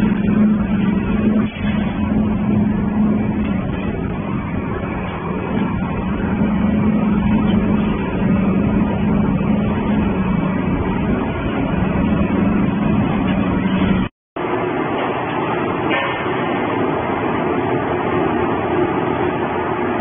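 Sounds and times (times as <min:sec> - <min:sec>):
shredder machinery hum: 0:00.0 - 0:20.0.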